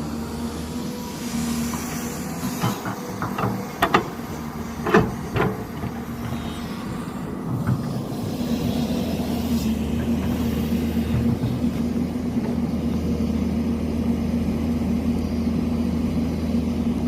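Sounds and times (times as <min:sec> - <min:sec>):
diesel construction machine running: 0:00.0 - 0:17.0.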